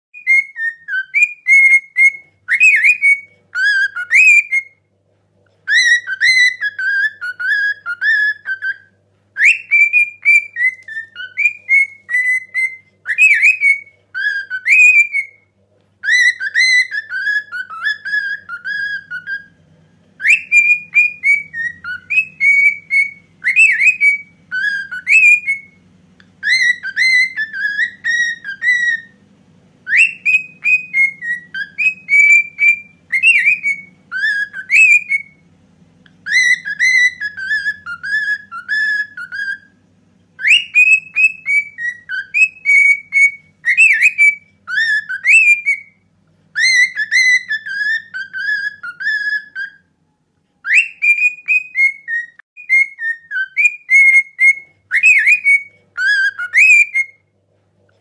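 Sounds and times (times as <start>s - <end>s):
cockatiel whistling a melody: 0.1s - 4.9s, 5.6s - 57.3s.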